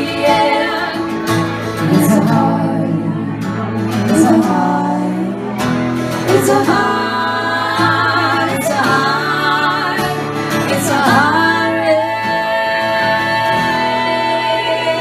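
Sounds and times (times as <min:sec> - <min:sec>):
acoustic guitar: 0:00.0 - 0:15.0
live folk-rock band: 0:00.0 - 0:15.0.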